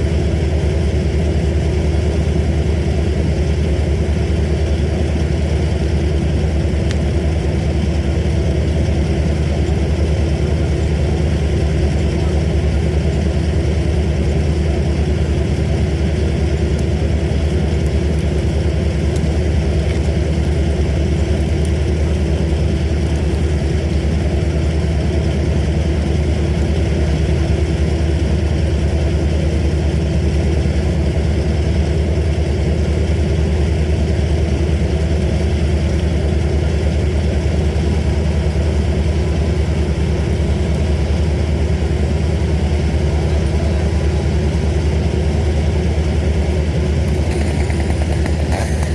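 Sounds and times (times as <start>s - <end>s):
machine engine droning: 0.0s - 48.9s.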